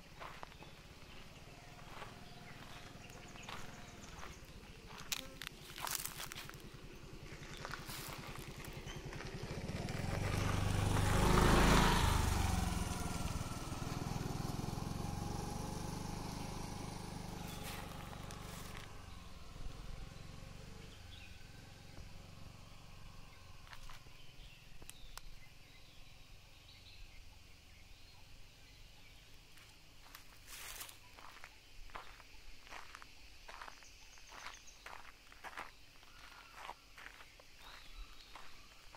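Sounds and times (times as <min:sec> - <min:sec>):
motor scooter passing: 0:00.0 - 0:32.2.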